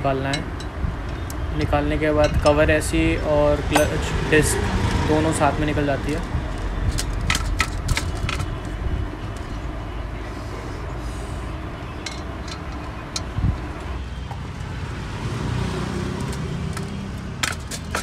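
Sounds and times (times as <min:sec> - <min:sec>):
vehicle and traffic noise: 0:00.0 - 0:18.0.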